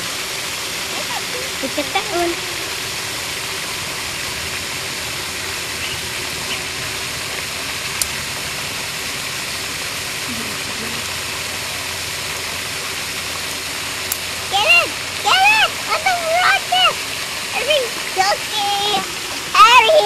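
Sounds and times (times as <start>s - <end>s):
fountain spray hissing: 0.0s - 20.0s.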